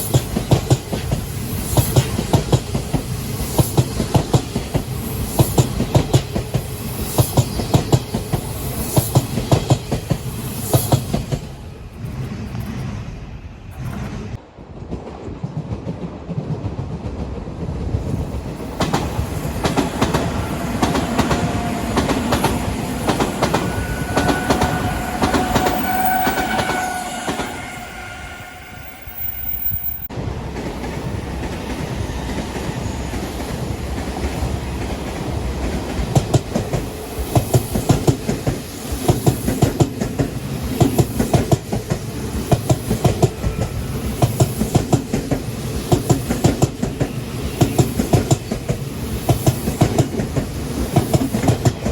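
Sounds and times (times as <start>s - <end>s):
train wheels clattering over rail joints: 0.0s - 13.0s, 18.0s - 26.0s, 30.6s - 51.9s
electric train passing with whine: 0.0s - 51.9s.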